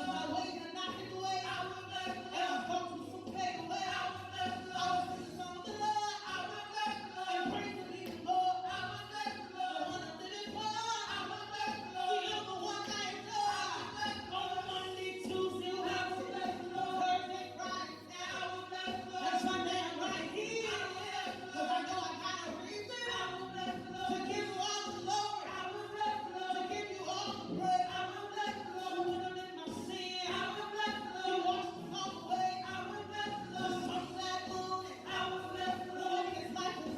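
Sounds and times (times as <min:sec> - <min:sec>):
group singing gospel song: 0:00.0 - 0:36.9.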